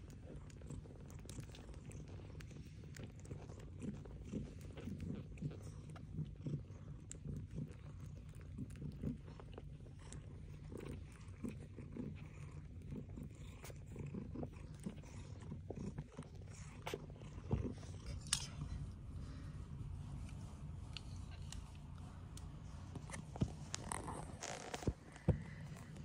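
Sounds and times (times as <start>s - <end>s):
cats licking: 0.0s - 26.0s
low steady hum: 0.0s - 26.0s.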